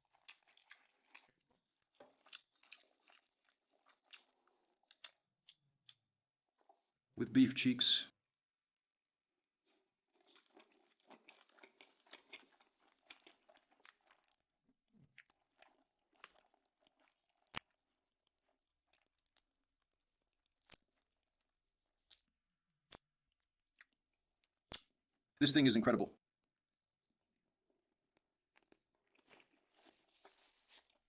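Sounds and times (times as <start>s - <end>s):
person chewing: 0.0s - 6.8s, 9.6s - 25.0s, 28.1s - 31.0s.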